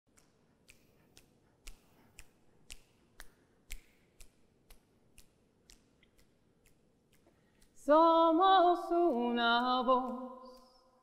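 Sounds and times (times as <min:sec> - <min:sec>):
finger snaps: 0:00.1 - 0:07.9, 0:08.6 - 0:11.0.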